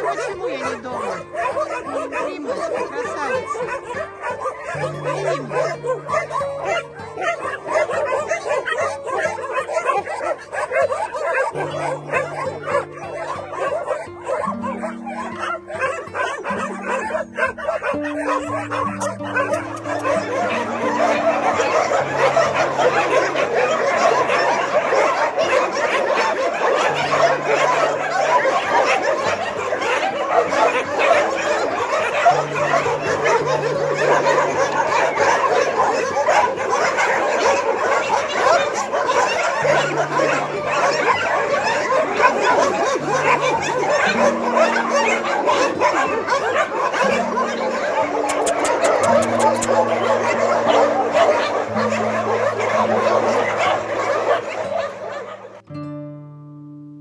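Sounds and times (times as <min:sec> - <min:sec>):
dogs barking and yipping: 0:00.0 - 0:56.0
music with low held notes: 0:00.0 - 0:57.0.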